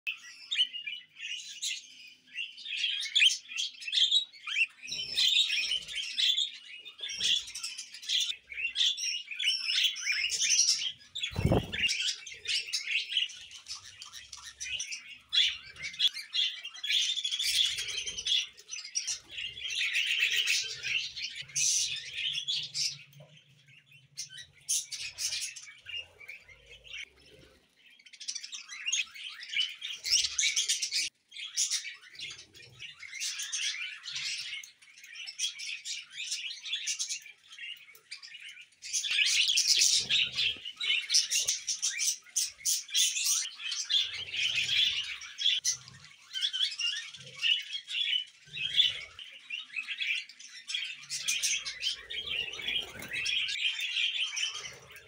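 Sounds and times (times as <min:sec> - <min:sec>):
budgerigars chirping and chattering: 0:00.1 - 0:55.0.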